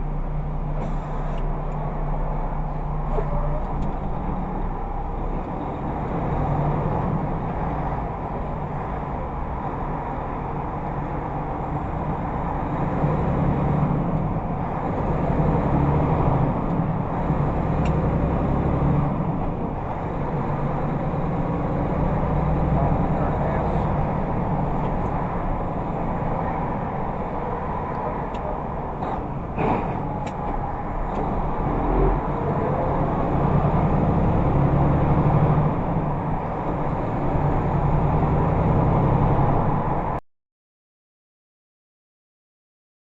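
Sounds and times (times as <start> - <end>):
car engine and road noise: 0.0 - 40.2.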